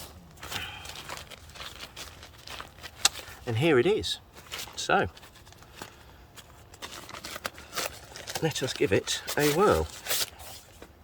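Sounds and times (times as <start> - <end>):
nylon sack rustling and crinkling: 0.0 - 10.7.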